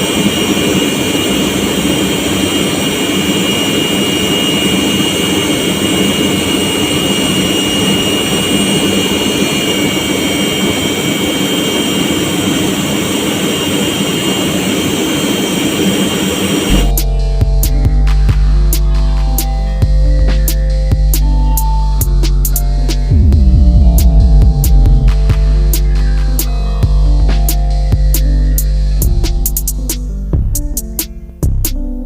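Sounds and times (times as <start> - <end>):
high whines: 0.0 - 31.0
air compressor drone: 0.0 - 31.4.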